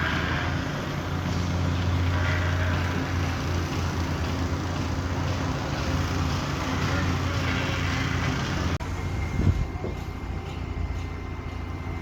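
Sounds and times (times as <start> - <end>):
bulldozer engine droning: 0.0 - 12.0.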